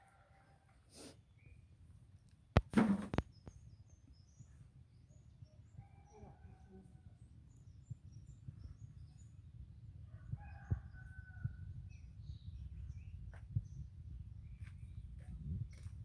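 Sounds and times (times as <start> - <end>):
small birds chirping: 0.9 - 16.0.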